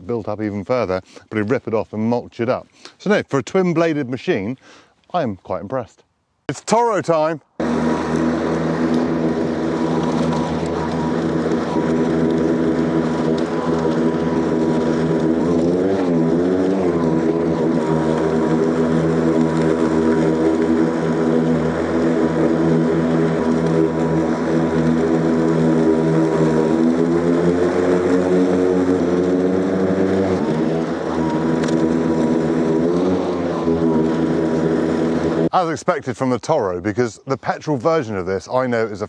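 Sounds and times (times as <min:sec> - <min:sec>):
lawnmower cutting grass: 0:00.0 - 0:05.3, 0:06.5 - 0:38.9.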